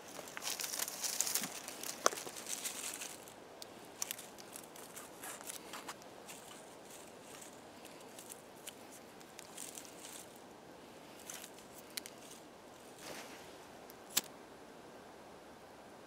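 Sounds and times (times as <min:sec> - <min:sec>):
twigs and bark rustling: 0:00.0 - 0:14.3.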